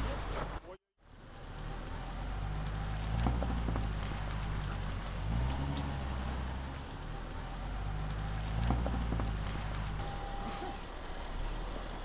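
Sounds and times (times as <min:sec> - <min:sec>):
suv engine running at low revs: 0:01.0 - 0:12.0
tyres crunching on snow: 0:02.0 - 0:12.0.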